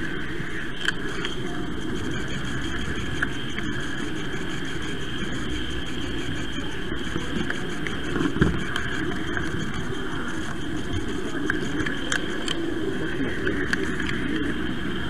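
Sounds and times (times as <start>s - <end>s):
thin whine: 0.0s - 15.0s.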